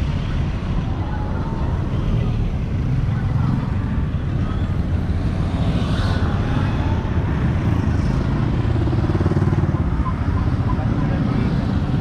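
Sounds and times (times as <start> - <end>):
motorbike engines: 0.0 - 12.0
street traffic rumble: 0.0 - 12.0.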